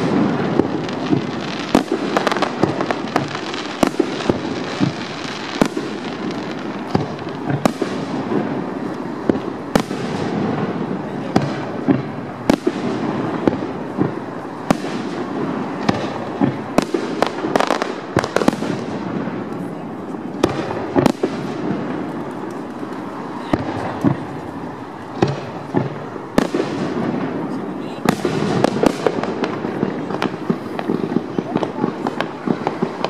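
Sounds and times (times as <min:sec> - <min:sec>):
continuous noisy background: 0:00.0 - 0:33.0.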